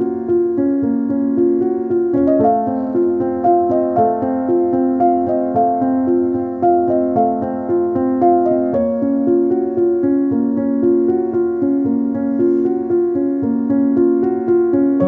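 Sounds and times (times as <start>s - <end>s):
keyboard melody over held chords: 0.0s - 15.0s.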